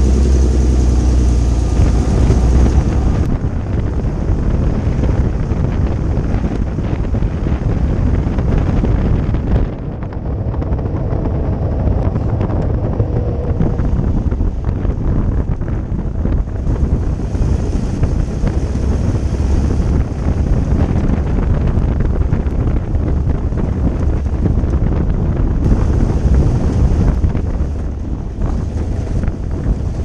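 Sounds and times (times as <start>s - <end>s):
car engine rumble: 0.0s - 30.0s
wind buffeting microphone: 0.0s - 30.0s.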